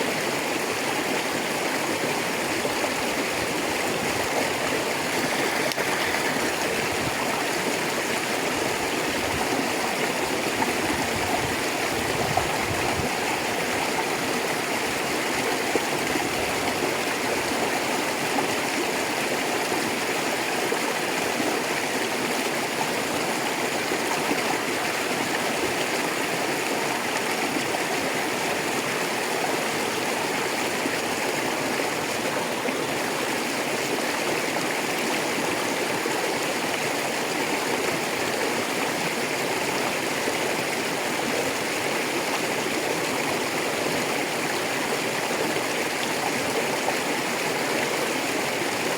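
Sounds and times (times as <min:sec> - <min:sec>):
river rushing over stones: 0:00.0 - 0:48.9.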